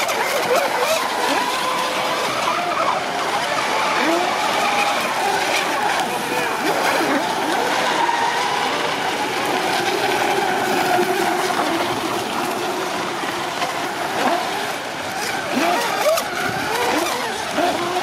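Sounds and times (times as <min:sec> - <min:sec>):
model boat motors passing: 0:00.0 - 0:18.0.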